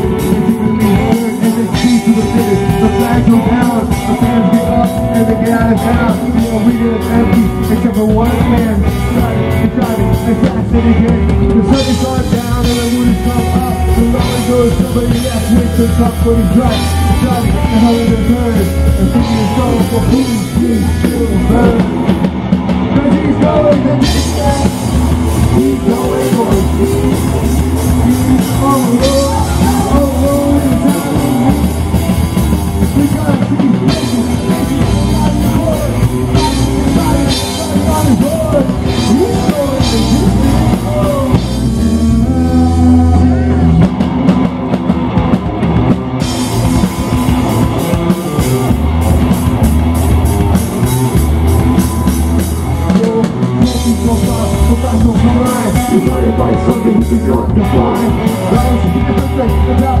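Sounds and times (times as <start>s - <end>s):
person singing: 0.0s - 44.0s, 51.6s - 60.0s
drum kit beat: 0.0s - 60.0s
electric guitars and bass: 0.0s - 60.0s
live rock band playing: 0.0s - 60.0s.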